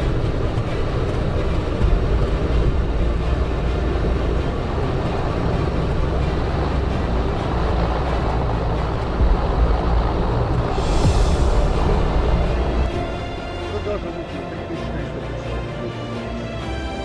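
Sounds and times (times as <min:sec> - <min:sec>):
aircraft engine and airflow rumble: 0:00.0 - 0:17.0.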